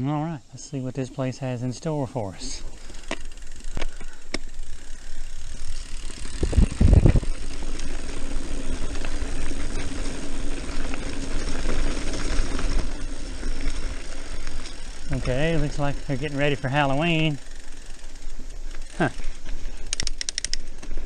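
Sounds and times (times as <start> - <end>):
bike tyres rattling over dirt: 2.6 - 21.0.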